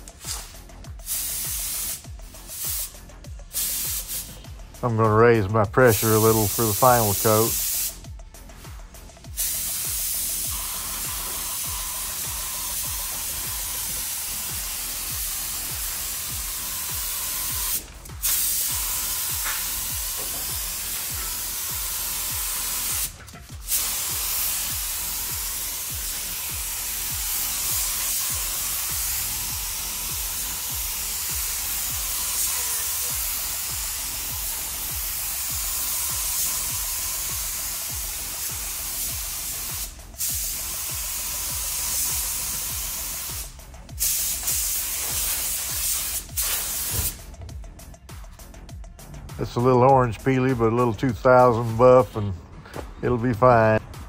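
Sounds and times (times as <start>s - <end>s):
paint spray gun hissing: 0.0s - 4.5s, 5.8s - 8.1s, 9.0s - 47.4s.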